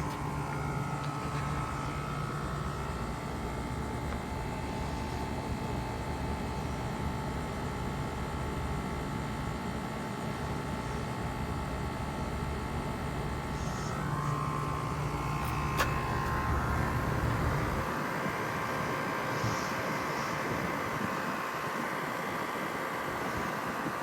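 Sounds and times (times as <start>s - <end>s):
heat pump unit humming: 0.0s - 24.0s.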